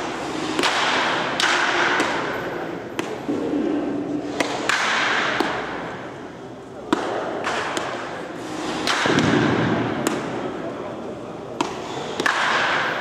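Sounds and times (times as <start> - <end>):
baseballs smacking into a mitt: 0.5 - 6.0, 6.8 - 10.6, 11.6 - 13.0.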